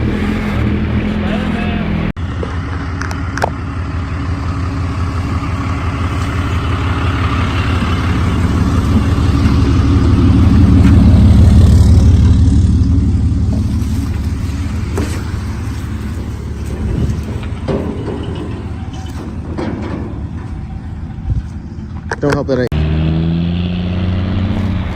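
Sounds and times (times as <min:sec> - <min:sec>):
truck engine passing by: 0:00.0 - 0:24.9.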